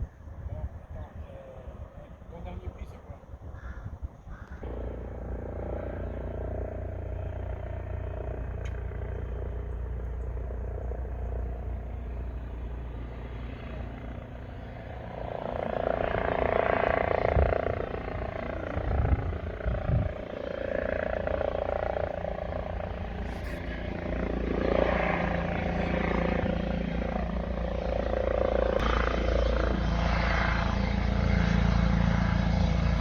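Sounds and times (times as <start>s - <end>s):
aircraft engine drone: 4.1s - 33.0s.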